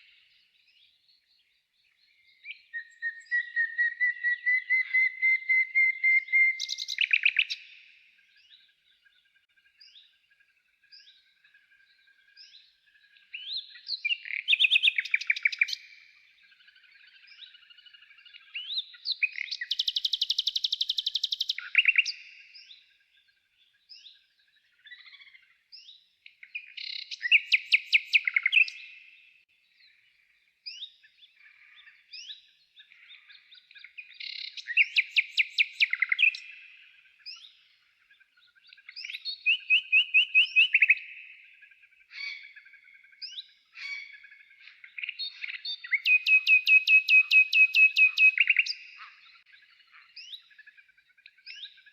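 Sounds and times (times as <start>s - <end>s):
quiet bird chirps: 0.0s - 51.9s
songbird trilled song: 0.0s - 51.9s.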